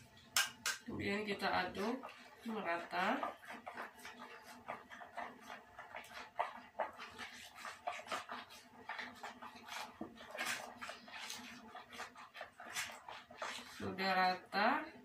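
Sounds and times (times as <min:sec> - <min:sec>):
hand kneading wet paste: 0:00.3 - 0:15.0.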